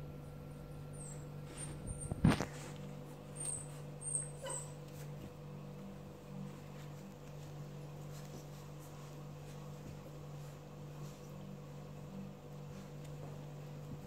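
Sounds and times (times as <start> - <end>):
low electrical hum: 0.0 - 14.0
puppies scuffling on a rug: 0.4 - 14.0.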